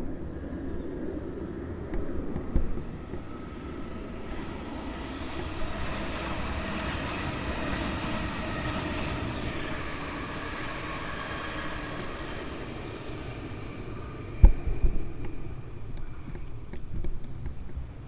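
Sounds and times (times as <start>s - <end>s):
faint whining tones: 0.0s - 17.5s
electric train running past: 0.0s - 18.0s.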